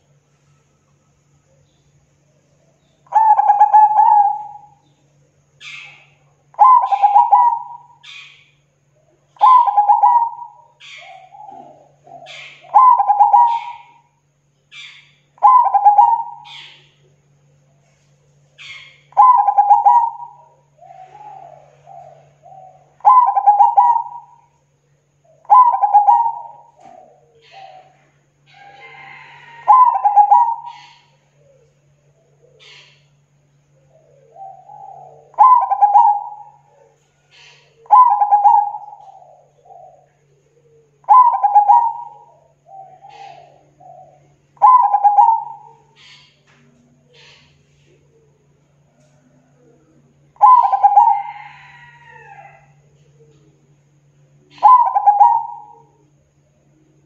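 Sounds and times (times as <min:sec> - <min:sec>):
dove cooing: 0:01.4 - 0:57.0.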